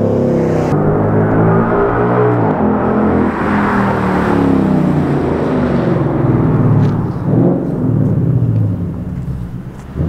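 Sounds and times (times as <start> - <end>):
car engine accelerating past: 0.0 - 10.0.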